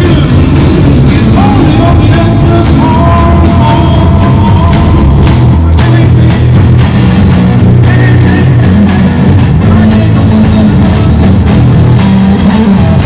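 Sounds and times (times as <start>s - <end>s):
drum hits: 0.0s - 13.0s
electric guitar sustained notes: 0.0s - 13.0s.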